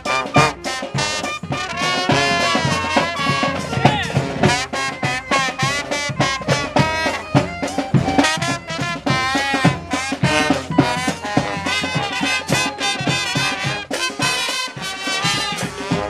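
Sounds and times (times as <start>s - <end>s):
brass horns playing: 0.0s - 16.0s
steady drum beat: 0.0s - 16.0s.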